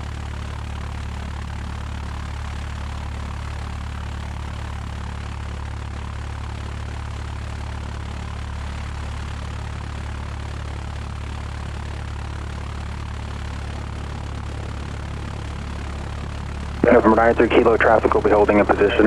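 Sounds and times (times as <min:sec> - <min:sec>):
propeller plane engine idling: 0:00.0 - 0:19.0.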